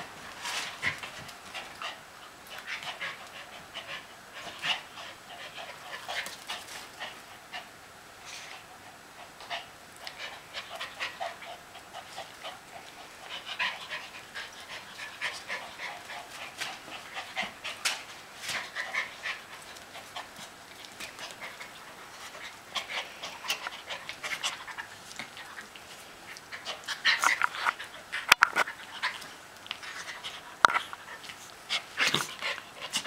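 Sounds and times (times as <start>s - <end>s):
dogs panting: 0.4s - 7.7s, 8.5s - 33.0s.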